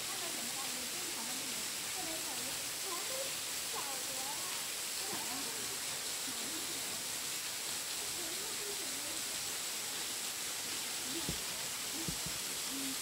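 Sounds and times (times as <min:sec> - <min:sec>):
faint voices: 0:00.0 - 0:13.0
waterfall into rock pool: 0:00.0 - 0:13.0.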